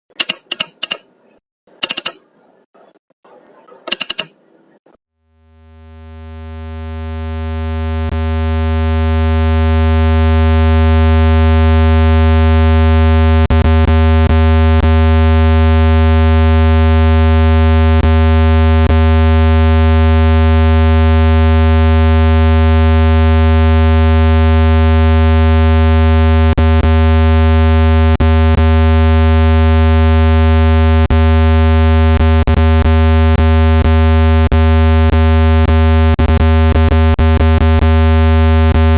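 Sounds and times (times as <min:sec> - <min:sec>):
low buzzing test tone: 0:05.4 - 0:38.9.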